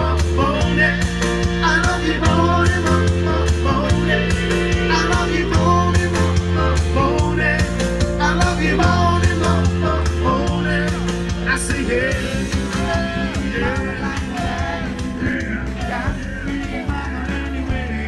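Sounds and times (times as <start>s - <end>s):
person singing: 0.0s - 18.0s
piano music: 0.0s - 18.0s.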